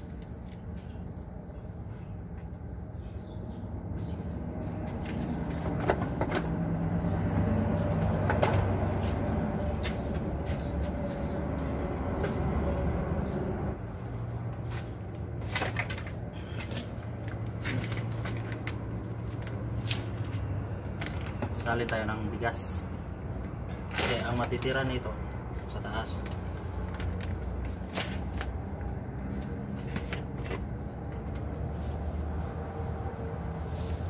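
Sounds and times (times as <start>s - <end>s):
heavy vehicle engine hum: 0.0s - 21.6s, 26.3s - 34.0s.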